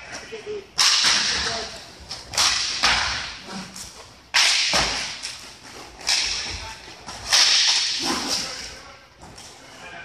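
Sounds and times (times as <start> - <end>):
hockey sticks and puck cracking: 0.8 - 8.8.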